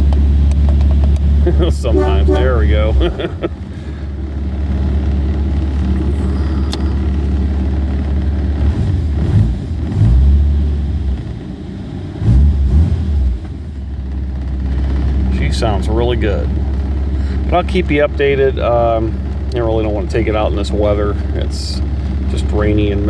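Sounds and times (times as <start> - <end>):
car engine idling: 0.0 - 12.3, 13.4 - 23.0.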